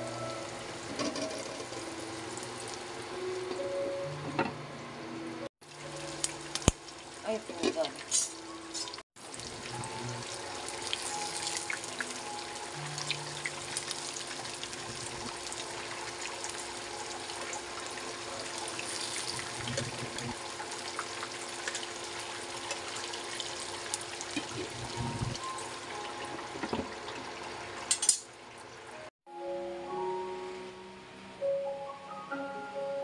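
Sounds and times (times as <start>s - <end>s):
meat deep-frying in hot oil: 0.0s - 3.7s, 5.6s - 29.0s.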